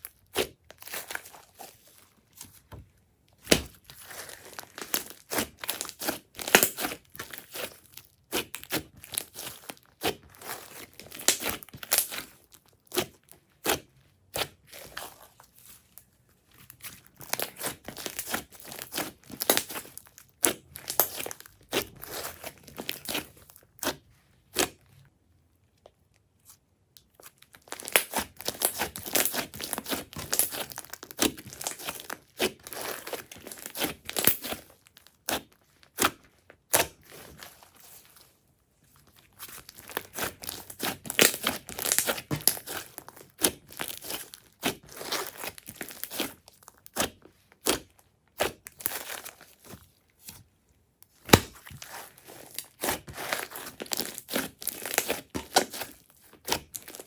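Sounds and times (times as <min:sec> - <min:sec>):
slime squished with sticky pops: 0:03.4 - 0:15.1, 0:16.6 - 0:25.0, 0:27.0 - 0:37.3, 0:39.5 - 0:50.5, 0:51.1 - 0:57.0.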